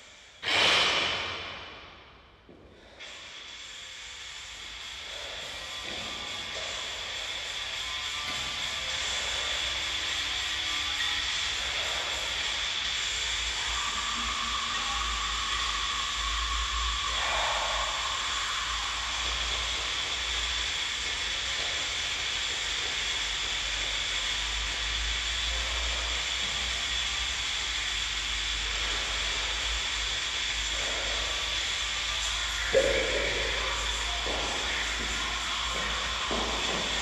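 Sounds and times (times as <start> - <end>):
room noise hiss: 2.4 - 37.0.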